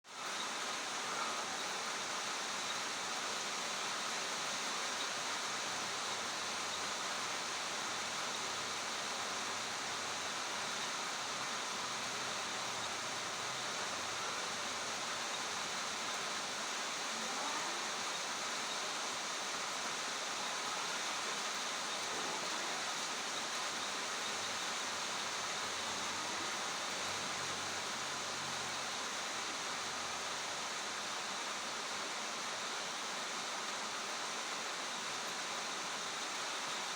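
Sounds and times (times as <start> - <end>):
rushing water: 0.5 - 36.9.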